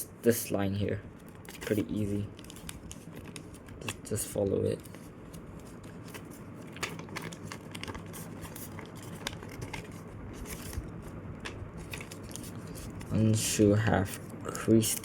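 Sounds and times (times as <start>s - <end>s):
paper crinkling and folding: 1.1s - 15.0s.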